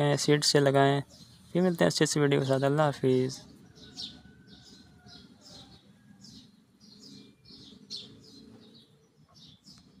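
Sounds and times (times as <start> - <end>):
faint small birds chirping: 0.0 - 10.0.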